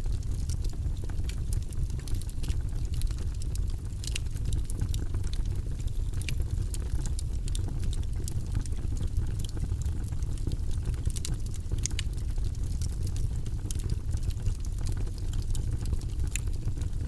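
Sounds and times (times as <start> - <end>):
burning wood crackling: 0.0 - 17.0
fire rumbling: 0.0 - 17.0.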